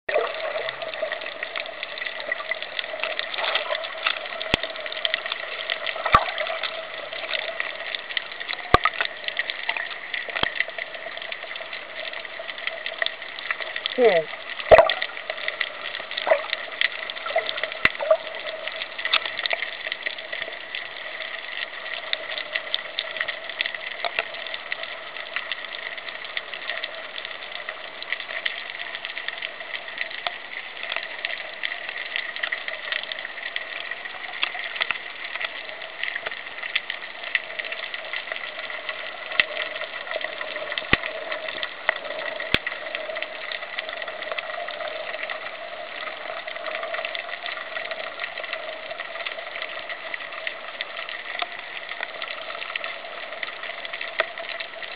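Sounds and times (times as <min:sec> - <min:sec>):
underwater wash with hum: 0:00.0 - 0:54.9
crackling clicks: 0:00.1 - 0:54.9.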